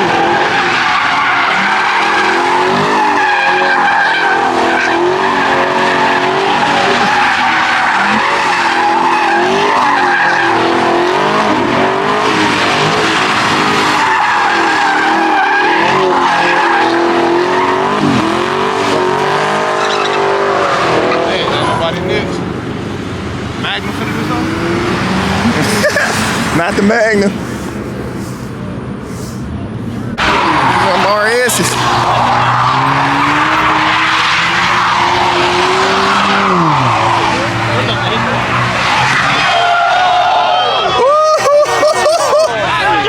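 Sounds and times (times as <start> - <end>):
tyres squealing: 0.0 - 22.7, 23.6 - 43.0
engine at high revs: 1.4 - 28.4, 30.0 - 39.8.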